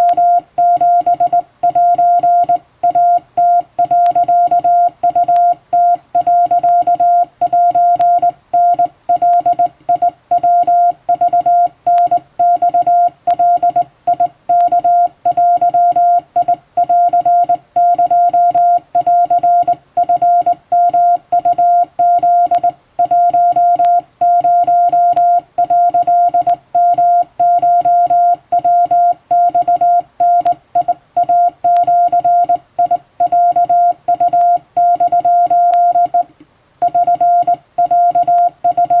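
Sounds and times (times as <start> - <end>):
morse code on telegraph key: 0.0 - 39.0.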